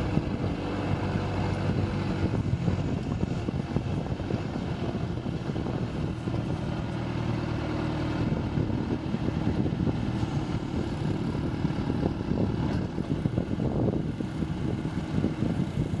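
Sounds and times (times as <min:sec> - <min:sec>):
backhoe diesel engine running: 0:00.0 - 0:16.0.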